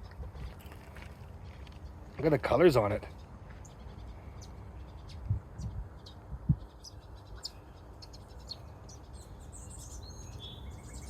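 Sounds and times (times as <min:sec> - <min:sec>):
small birds chirping: 0:00.0 - 0:11.0
steady outdoor rumble: 0:00.0 - 0:11.0.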